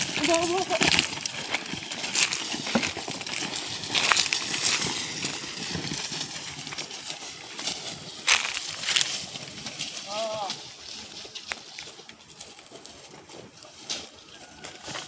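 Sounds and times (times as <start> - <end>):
plough scraping through soil: 0.0 - 15.0.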